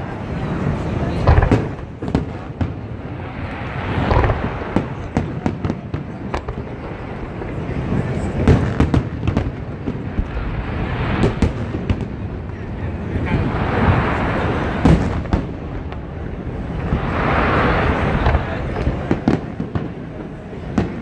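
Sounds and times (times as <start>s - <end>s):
fireworks booms: 0.0s - 21.0s
fireworks crackling: 0.0s - 21.0s.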